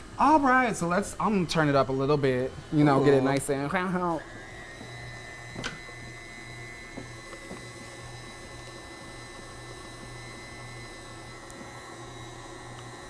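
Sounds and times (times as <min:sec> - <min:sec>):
electric stand mixer running: 0:00.0 - 0:13.0.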